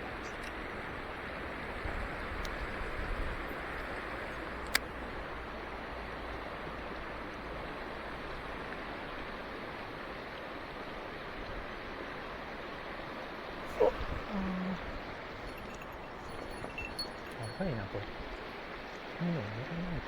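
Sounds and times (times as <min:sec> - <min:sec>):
stream water rushing: 0:03.6 - 0:20.0.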